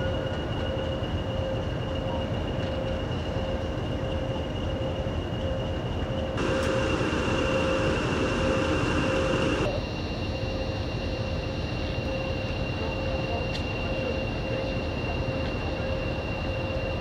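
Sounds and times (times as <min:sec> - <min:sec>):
diesel locomotive engines rumbling: 0:00.0 - 0:17.0.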